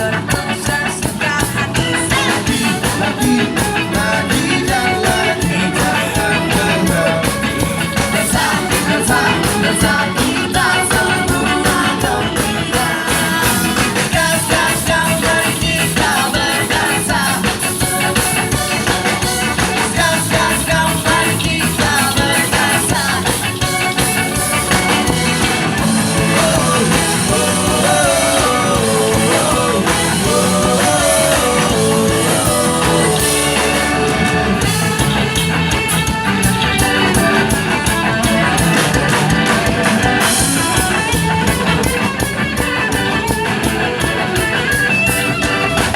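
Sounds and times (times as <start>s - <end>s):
ska band playing with singing: 0.0s - 45.9s.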